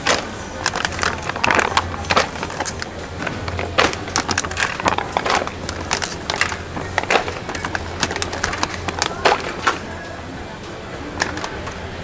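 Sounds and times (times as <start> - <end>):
plastic pouches crinkling: 0.0 - 9.9
steady low hum: 0.0 - 12.0.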